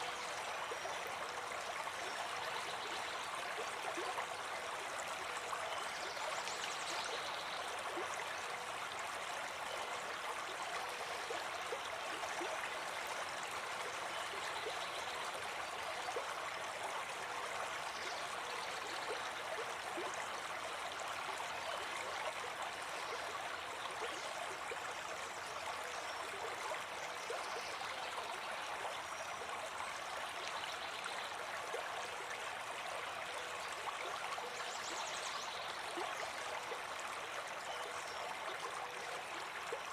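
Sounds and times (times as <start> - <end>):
stream flowing and babbling: 0.0 - 39.9.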